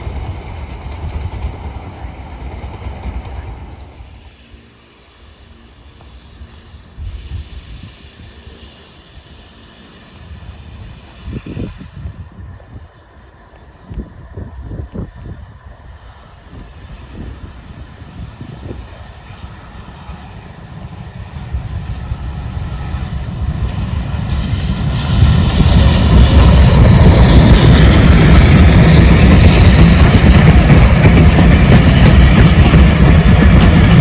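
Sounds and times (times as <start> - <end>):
steam train passing: 0.0 - 34.0.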